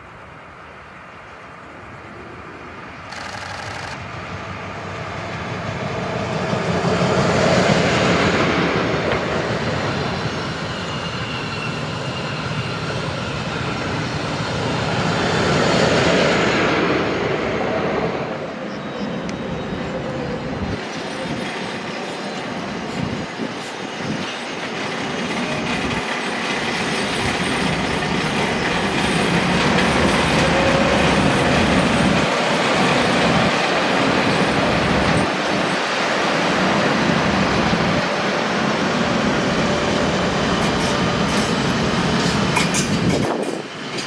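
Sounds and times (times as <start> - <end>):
train wheels rumbling on rails: 3.0 - 44.0.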